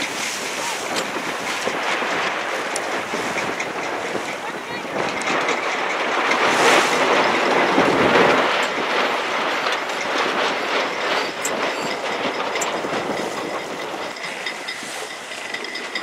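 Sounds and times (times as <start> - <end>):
water splashing against boat hull: 0.0 - 15.3
wind buffeting microphone: 0.0 - 16.0.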